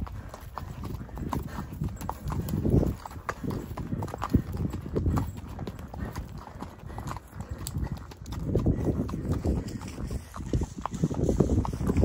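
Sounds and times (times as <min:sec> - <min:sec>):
horse hooves clopping: 0:00.0 - 0:12.0.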